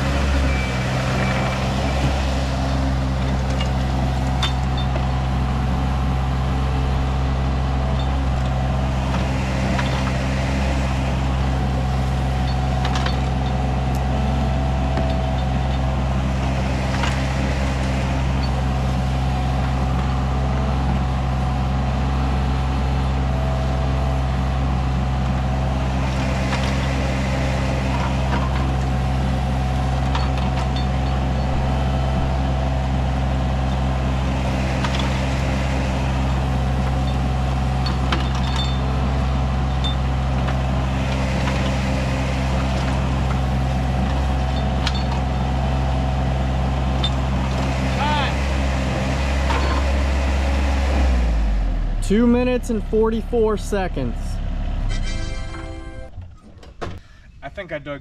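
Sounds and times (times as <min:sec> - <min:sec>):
excavator diesel engine running: 0:00.0 - 0:56.5.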